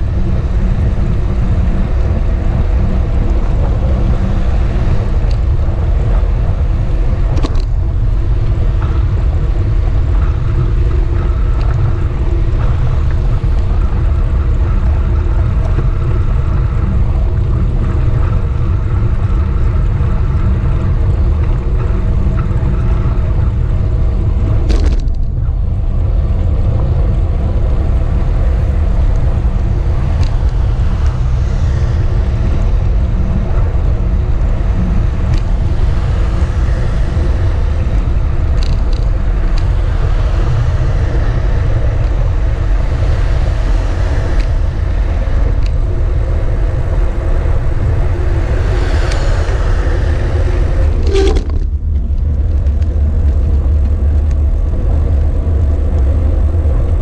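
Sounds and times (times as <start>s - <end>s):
road noise: 0.0s - 57.0s
wind buffeting microphone: 0.0s - 57.0s.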